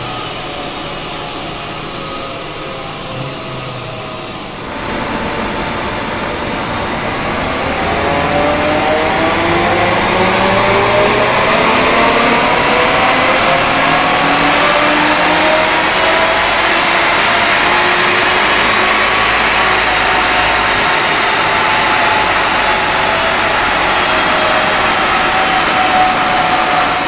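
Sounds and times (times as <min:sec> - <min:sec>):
car engine accelerating on dyno: 0:00.0 - 0:27.0.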